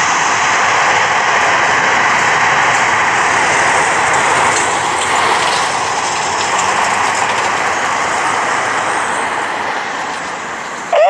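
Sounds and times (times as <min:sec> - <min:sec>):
aircraft engines running: 0:00.0 - 0:11.0.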